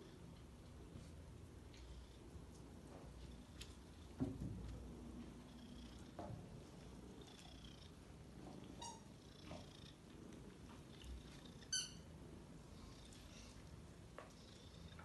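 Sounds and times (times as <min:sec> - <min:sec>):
cats purring: 0:00.0 - 0:15.0.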